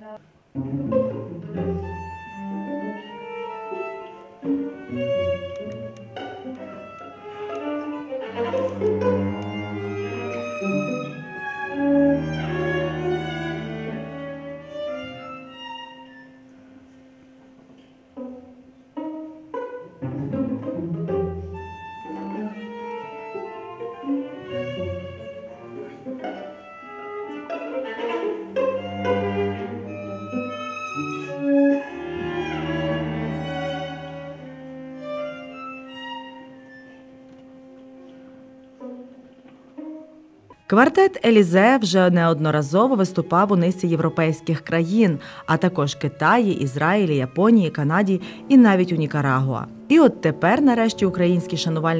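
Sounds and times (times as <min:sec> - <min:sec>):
accented string chords: 0:00.0 - 0:51.9
string quartet playing: 0:00.0 - 0:51.9.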